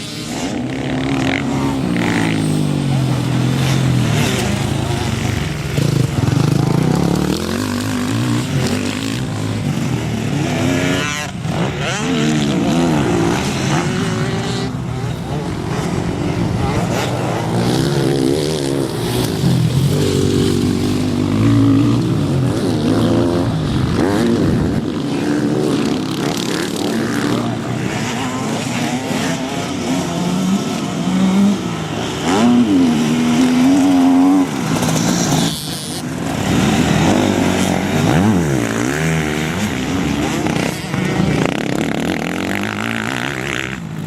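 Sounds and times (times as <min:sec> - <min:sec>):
motorcycle engines revving: 0:00.0 - 0:44.0.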